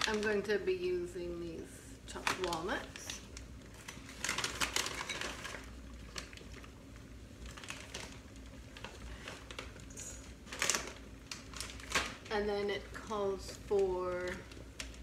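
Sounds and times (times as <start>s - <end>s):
plastic bag crinkling: 0.0s - 0.6s, 2.1s - 15.0s.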